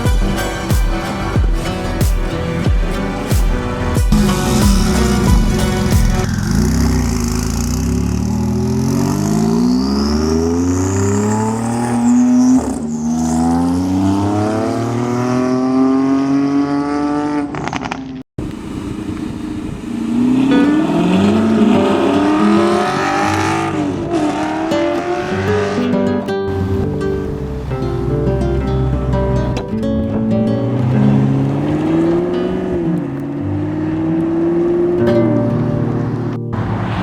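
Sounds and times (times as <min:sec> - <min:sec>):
car engine accelerating hard: 0:02.5 - 0:17.9, 0:18.5 - 0:37.0.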